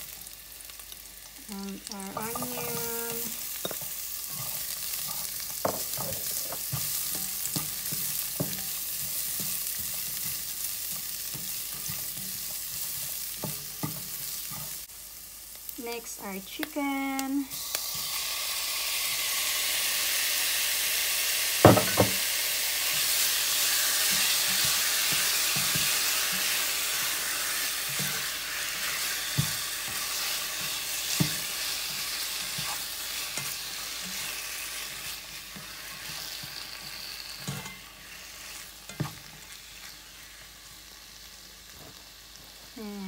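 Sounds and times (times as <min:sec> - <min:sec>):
chicken sizzling in oil: 0:00.0 - 0:43.0.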